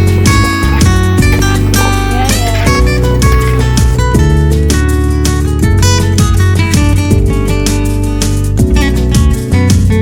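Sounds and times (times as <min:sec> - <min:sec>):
guitar-led instrumental music: 0:00.0 - 0:10.0.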